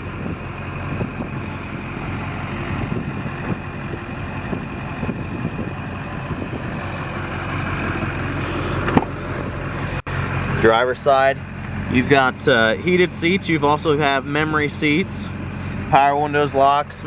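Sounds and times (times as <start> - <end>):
diesel pickup engine idling: 0.0 - 17.0.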